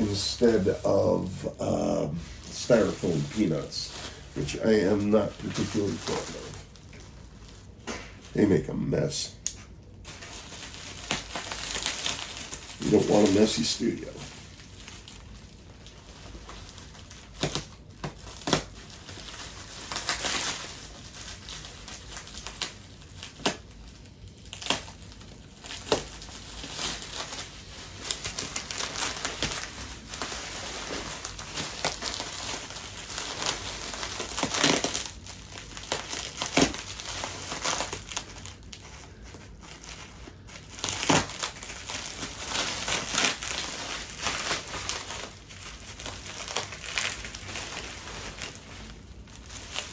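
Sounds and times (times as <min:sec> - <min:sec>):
bubble wrap crinkling: 0:00.0 - 0:49.9.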